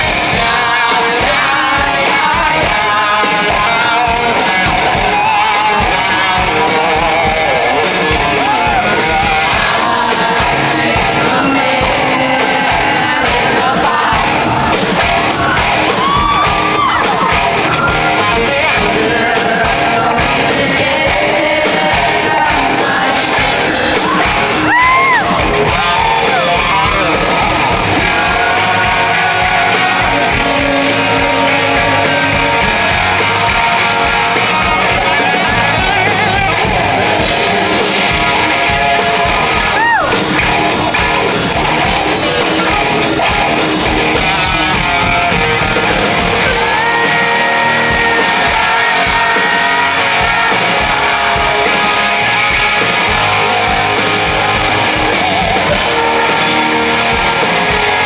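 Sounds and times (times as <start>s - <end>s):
live rock band playing: 0.0s - 58.0s
shouted rock vocal: 0.0s - 58.0s.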